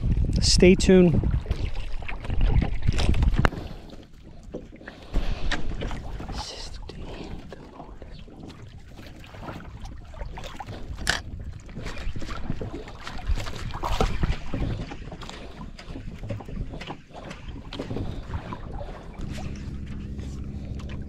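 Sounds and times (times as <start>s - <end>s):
wind on microphone: 0.0s - 3.9s, 5.1s - 21.0s
water splashing against hull: 0.0s - 21.0s.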